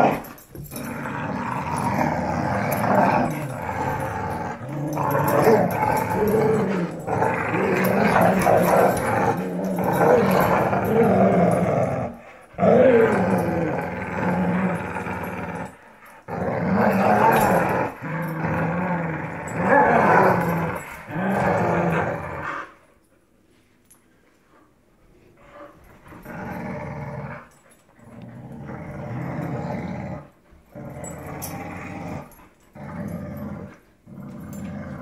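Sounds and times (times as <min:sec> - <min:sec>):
dogs play growling: 0:00.0 - 0:23.2, 0:24.6 - 0:35.0.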